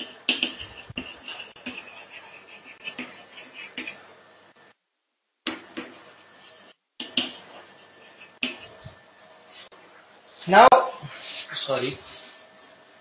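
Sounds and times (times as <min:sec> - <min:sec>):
chalk tapping and scratching: 0:00.0 - 0:04.7, 0:05.4 - 0:09.8, 0:11.0 - 0:12.5.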